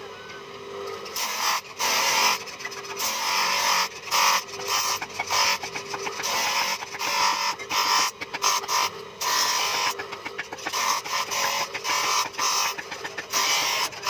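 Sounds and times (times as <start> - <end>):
bench grinder motor hum: 0.0 - 14.0
knife blade grinding on wheel: 1.0 - 14.0.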